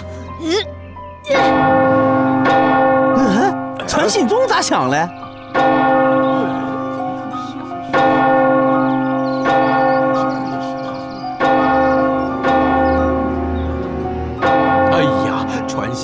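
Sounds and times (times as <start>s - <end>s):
large bell being struck: 1.3s - 16.0s.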